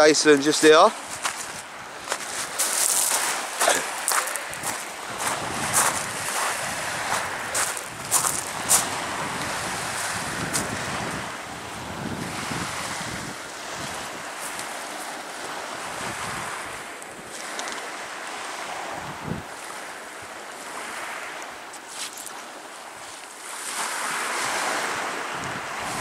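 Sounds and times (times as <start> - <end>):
small waves on shingle: 0.0 - 26.0
wind buffeting microphone: 0.7 - 17.6, 18.5 - 21.0, 24.0 - 26.0.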